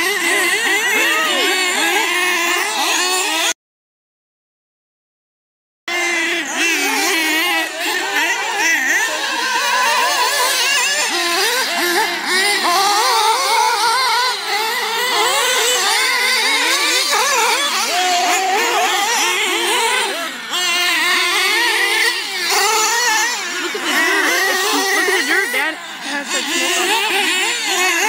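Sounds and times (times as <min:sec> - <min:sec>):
rc car engines whining: 0:00.0 - 0:03.6, 0:05.9 - 0:28.0.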